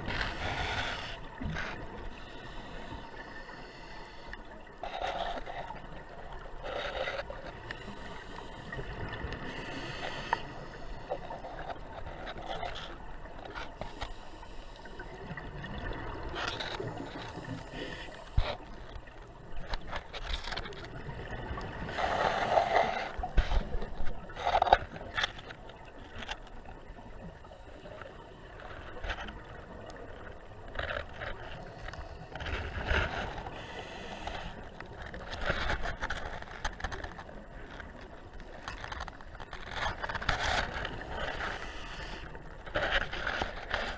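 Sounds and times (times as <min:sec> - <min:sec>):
muffled underwater wash: 0:00.0 - 0:43.9.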